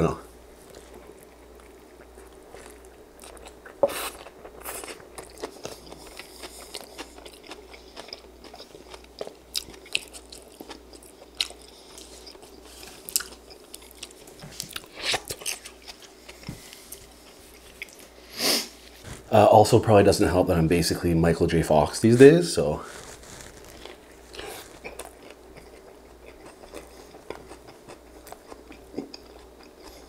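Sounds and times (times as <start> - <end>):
person chewing crunchy food: 0.6 - 19.3, 22.9 - 30.0.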